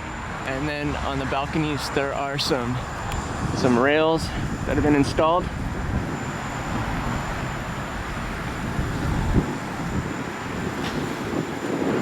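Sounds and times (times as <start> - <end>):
traffic road noise: 0.0 - 12.0
wind rumble on microphone: 1.5 - 12.0.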